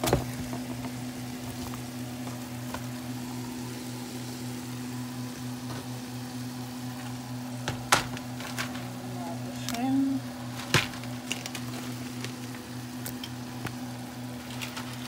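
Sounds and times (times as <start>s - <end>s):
onions frying in a pan: 0.0s - 15.0s.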